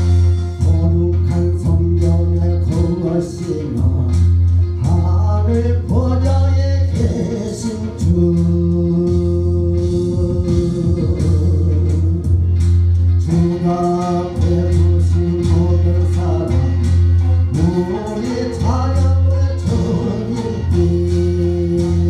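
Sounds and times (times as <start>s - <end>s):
man singing into a microphone: 0.0s - 12.6s, 13.2s - 22.0s
instrumental accompaniment with bass: 0.0s - 22.0s.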